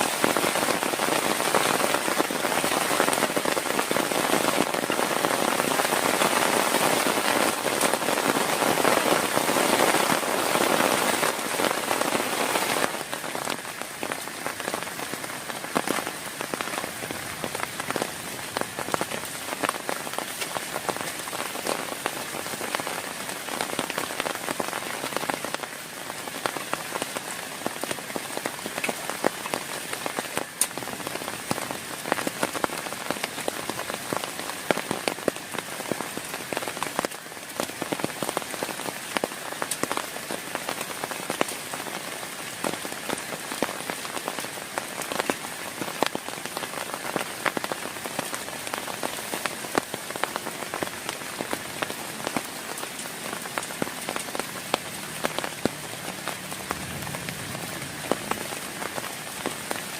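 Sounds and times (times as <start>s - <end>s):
heavy rain: 0.0s - 59.9s
raindrops hitting a surface: 0.0s - 59.9s.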